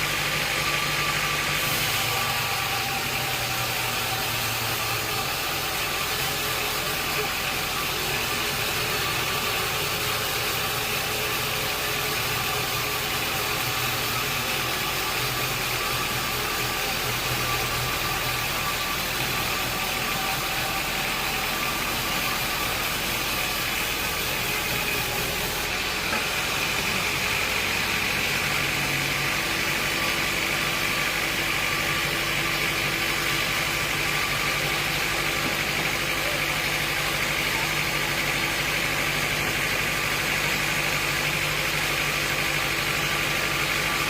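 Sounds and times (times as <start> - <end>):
sawmill machinery drone: 0.0 - 44.0.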